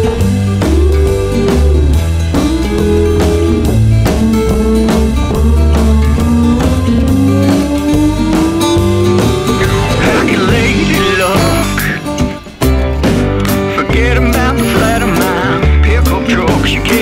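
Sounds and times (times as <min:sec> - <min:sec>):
drum kit beat: 0:00.0 - 0:17.0
slide guitar lead: 0:00.0 - 0:17.0
upright bass: 0:00.0 - 0:17.0.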